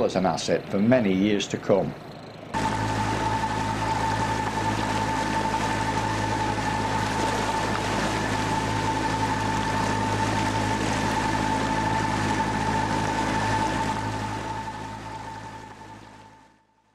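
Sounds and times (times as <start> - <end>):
boat wake rushing: 0.0 - 16.9
outboard engine droning: 0.0 - 16.9.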